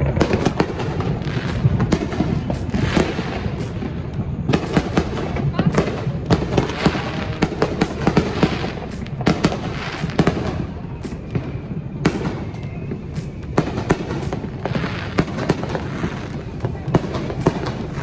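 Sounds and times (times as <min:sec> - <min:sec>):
continuous low rumble: 0:00.0 - 0:18.0
fireworks cracks and bangs: 0:00.0 - 0:18.0.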